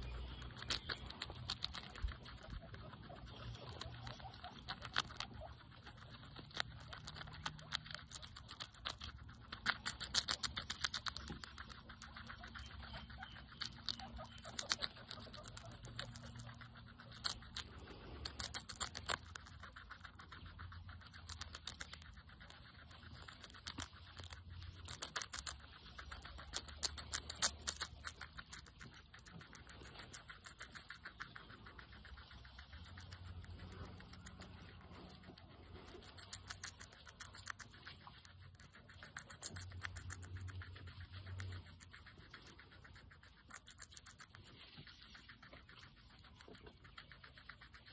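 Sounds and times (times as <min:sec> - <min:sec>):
guinea pig chewing lettuce: 0:00.0 - 0:47.9.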